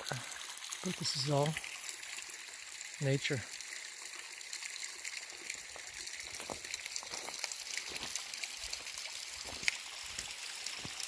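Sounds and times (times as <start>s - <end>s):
water drips and splashes: 0.0s - 11.0s
water trickling down rock: 0.0s - 11.0s.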